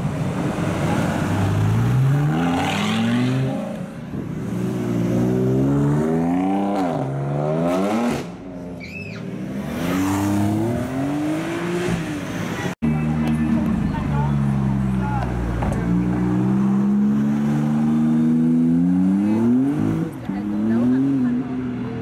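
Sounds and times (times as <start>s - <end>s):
sports car engines revving: 0.0s - 22.0s.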